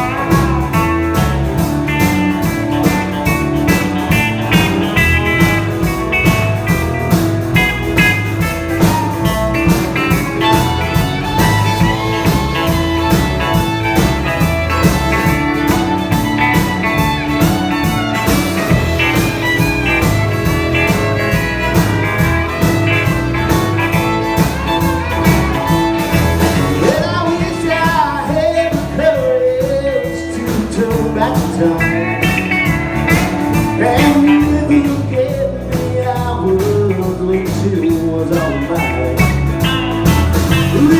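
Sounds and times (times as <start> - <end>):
live blues-rock band: 0.0 - 40.9.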